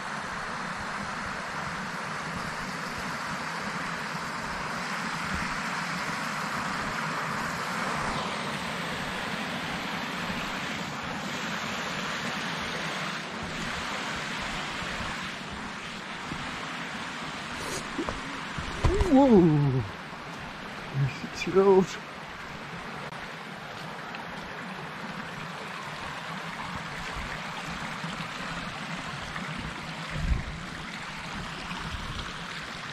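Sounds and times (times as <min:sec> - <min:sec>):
stream rushing over rapids: 0:00.0 - 0:32.9.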